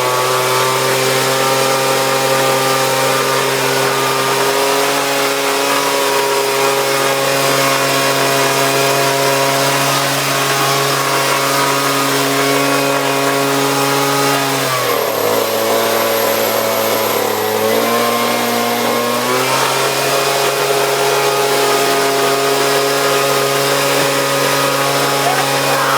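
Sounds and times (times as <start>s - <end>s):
leaf blower engine running: 0.0s - 25.9s.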